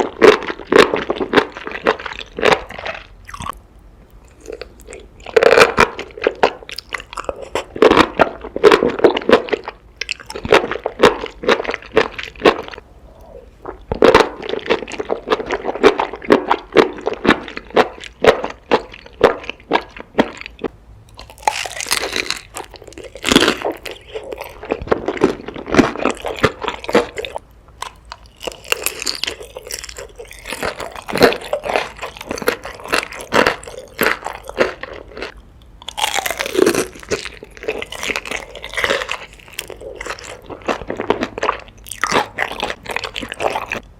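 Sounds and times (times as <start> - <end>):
biting and chewing crunches: 0.0 - 3.6, 4.2 - 43.9.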